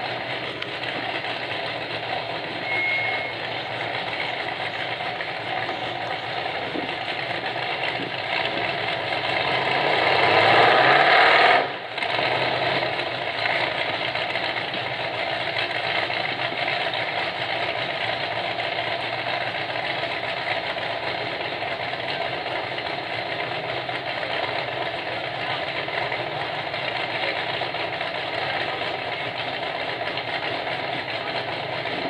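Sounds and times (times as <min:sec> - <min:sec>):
buggy engine revving and idling: 0:00.0 - 0:32.0.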